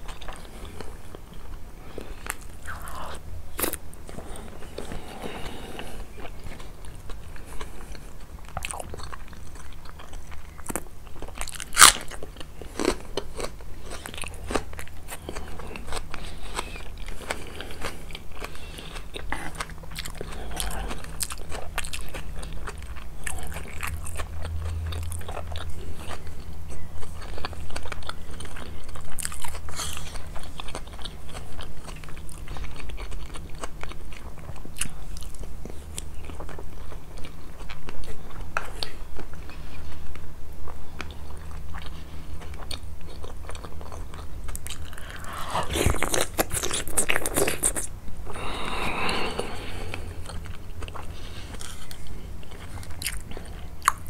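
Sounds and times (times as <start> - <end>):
crunching and chewing crispy food: 0.0 - 54.0
low steady hum: 0.0 - 54.0.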